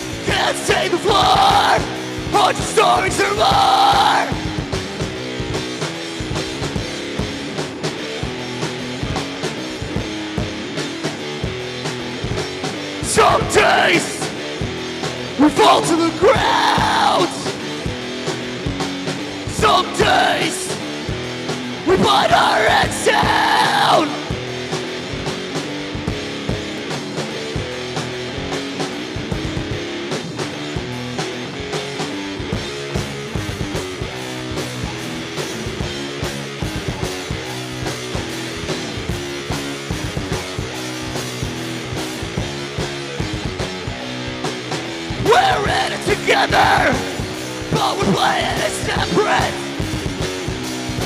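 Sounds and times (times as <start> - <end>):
drum kit steady beat: 0.0 - 51.0
electric guitar: 0.0 - 51.0
rock band playing: 0.0 - 51.0.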